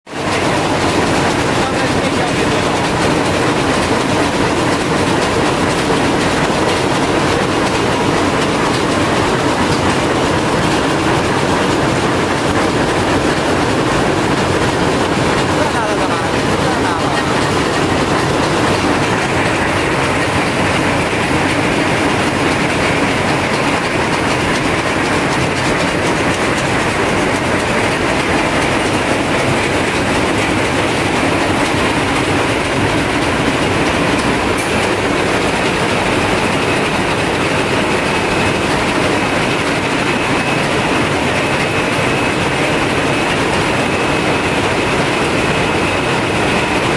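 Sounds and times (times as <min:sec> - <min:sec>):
loom mechanical clatter: 0:00.1 - 0:46.9.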